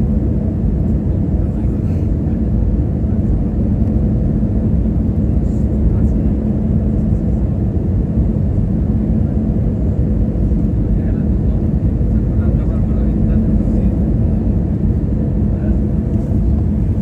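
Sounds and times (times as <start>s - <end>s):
constant hum: 0.0s - 17.0s
jet engine cabin drone: 0.0s - 17.0s.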